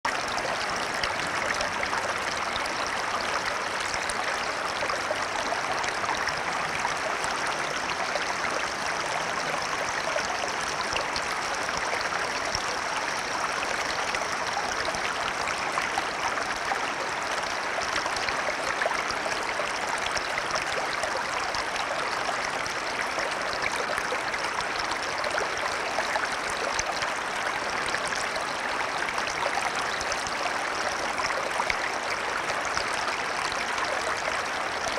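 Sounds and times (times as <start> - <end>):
stream babbling over stones: 0.1 - 34.9.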